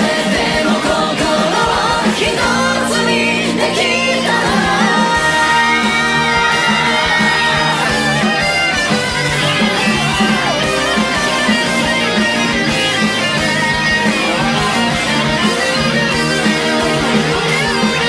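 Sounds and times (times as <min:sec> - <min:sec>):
steady drum beat: 0:00.0 - 0:02.8, 0:04.3 - 0:18.0
electric guitars: 0:00.0 - 0:18.0.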